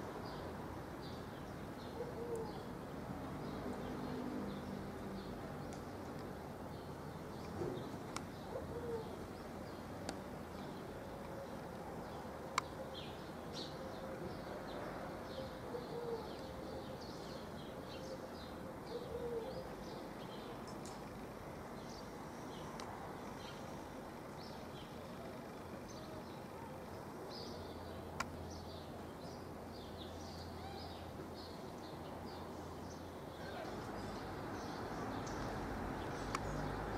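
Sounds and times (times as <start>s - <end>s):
birds chirping: 3.4s - 36.9s.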